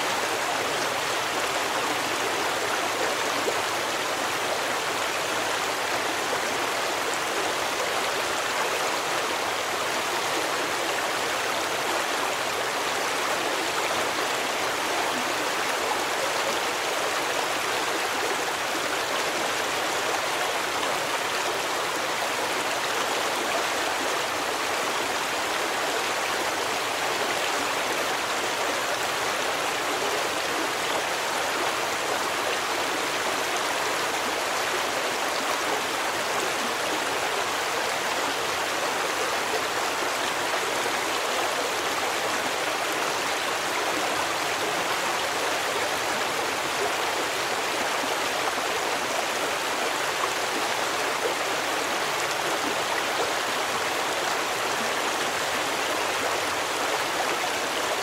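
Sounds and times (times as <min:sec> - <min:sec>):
stream flowing water: 0:00.0 - 0:58.0.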